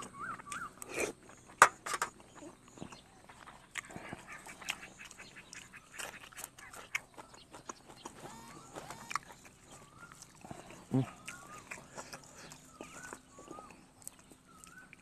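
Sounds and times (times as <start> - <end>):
chewing and mouth smacks: 0.0 - 15.0.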